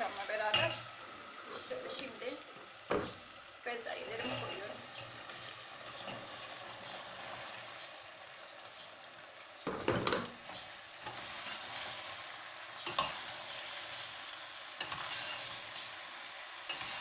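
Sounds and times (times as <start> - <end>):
peas sizzling in hot oil: 0.0 - 17.0.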